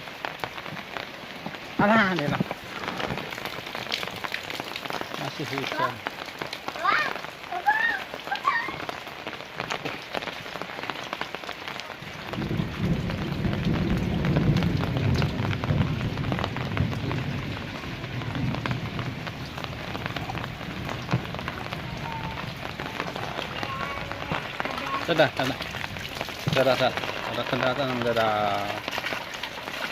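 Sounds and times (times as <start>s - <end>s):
rain pattering on surfaces: 0.0s - 29.9s.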